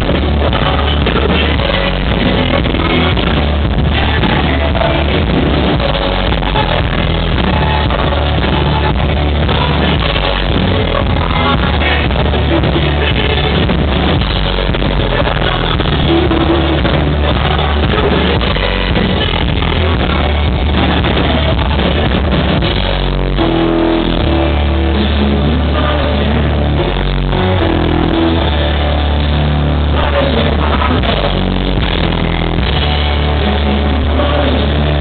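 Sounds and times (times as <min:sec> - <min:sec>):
drums: 0:00.0 - 0:35.0
electric guitar: 0:00.0 - 0:35.0
person singing: 0:00.0 - 0:35.0.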